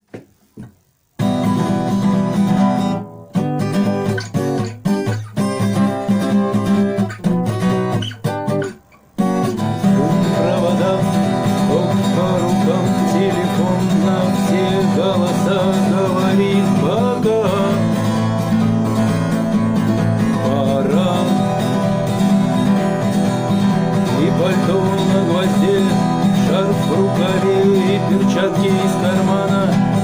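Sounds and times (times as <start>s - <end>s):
acoustic guitar strumming: 0.2s - 30.0s.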